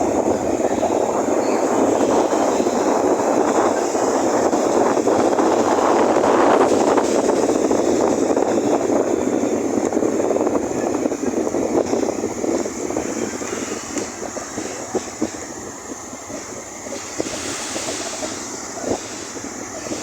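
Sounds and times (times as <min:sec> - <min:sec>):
waves breaking on beach: 0:00.0 - 0:20.0
wind blowing on microphone: 0:00.0 - 0:20.0.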